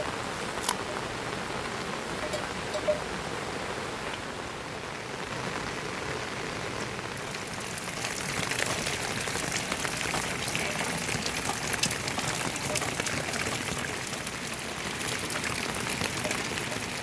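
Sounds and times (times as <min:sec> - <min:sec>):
heavy rain falling: 0:00.0 - 0:17.0
raindrops striking close by: 0:00.0 - 0:17.0.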